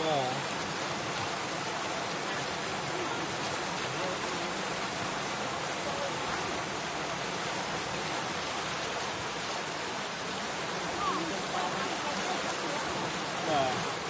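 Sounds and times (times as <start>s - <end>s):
rushing white water: 0.0s - 14.0s.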